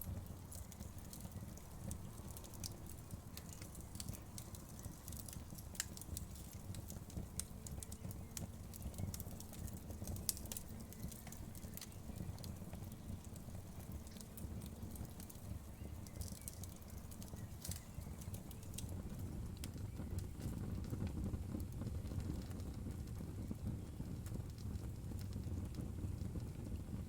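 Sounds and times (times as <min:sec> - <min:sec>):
burning wood crackling and popping: 0:00.0 - 0:27.0
low rumble of flames: 0:00.0 - 0:27.0.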